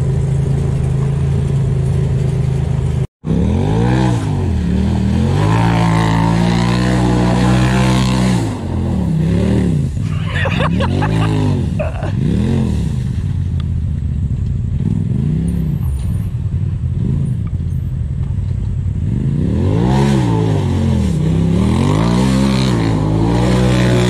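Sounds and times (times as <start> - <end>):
off-road vehicle engine revving: 0.0 - 13.6, 14.7 - 17.8, 18.9 - 24.0.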